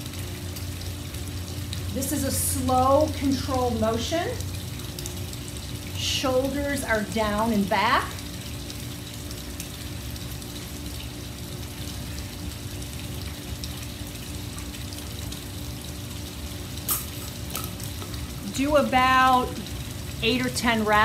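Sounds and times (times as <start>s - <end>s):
low even hum: 0.0s - 21.0s.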